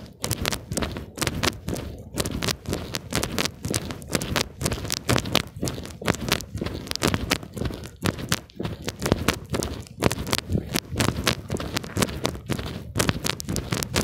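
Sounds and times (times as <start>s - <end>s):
footsteps walking: 0.0s - 14.0s.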